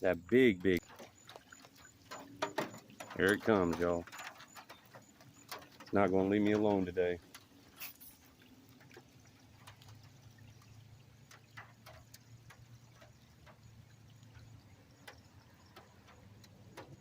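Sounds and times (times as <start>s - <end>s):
faint water drips: 0.0s - 17.0s.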